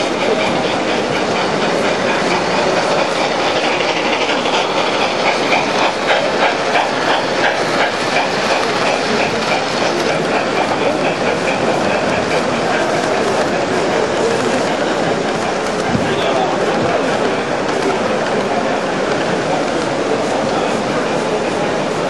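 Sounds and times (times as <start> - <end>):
model train wheels clickety-clack: 0.0 - 22.0.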